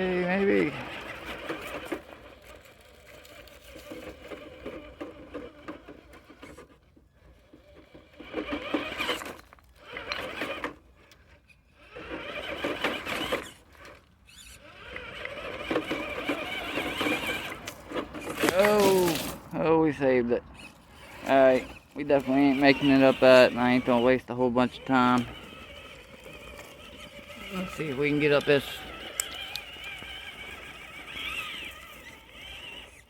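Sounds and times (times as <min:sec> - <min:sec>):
toy car electric motor whining: 0:00.0 - 0:33.0.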